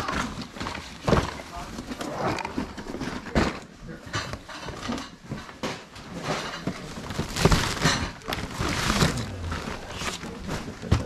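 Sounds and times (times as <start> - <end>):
boxes knocking and bumping: 0.0 - 11.0.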